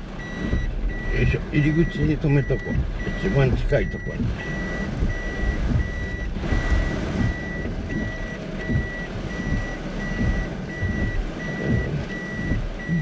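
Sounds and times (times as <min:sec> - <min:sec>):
heavy rain on a van: 0:00.0 - 0:13.0
reversing warning beeper: 0:00.2 - 0:13.0.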